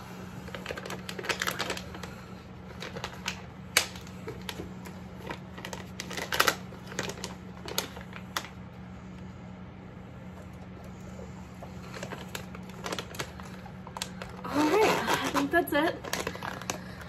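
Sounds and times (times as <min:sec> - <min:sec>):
plastic bag crinkling: 0:00.0 - 0:08.7, 0:11.6 - 0:17.0.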